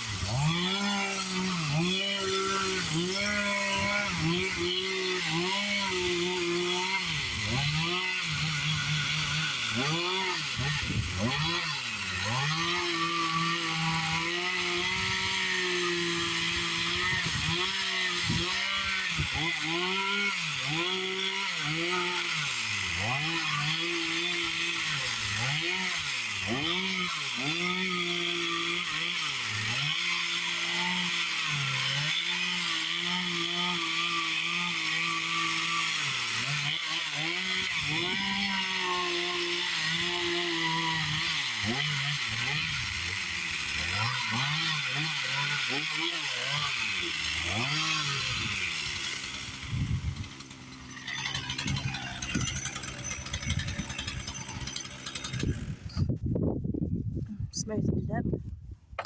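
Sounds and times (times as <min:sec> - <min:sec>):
chainsaw revving while carving wood: 0:00.0 - 0:56.2.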